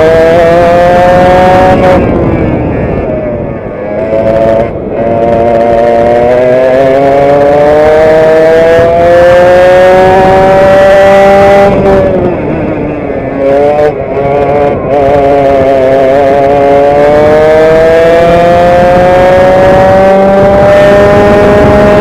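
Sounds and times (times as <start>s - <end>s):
two-stroke kart engine racing: 0.0s - 22.0s.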